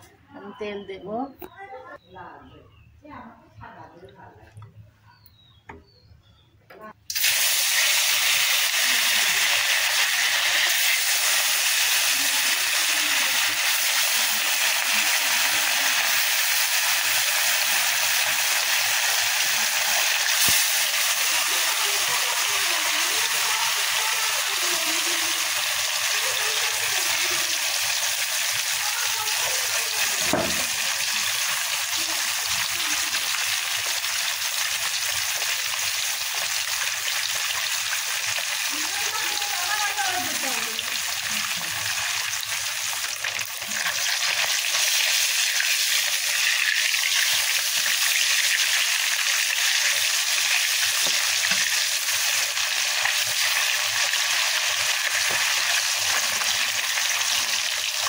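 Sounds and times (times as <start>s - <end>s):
fish sizzling in hot oil: 7.1s - 58.0s.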